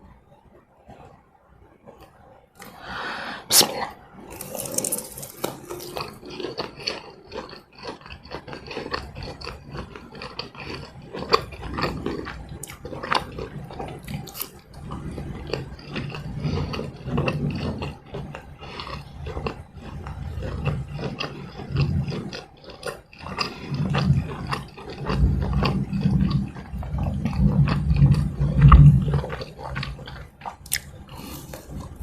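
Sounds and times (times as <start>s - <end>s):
crunchy chewing: 1.9s - 32.0s.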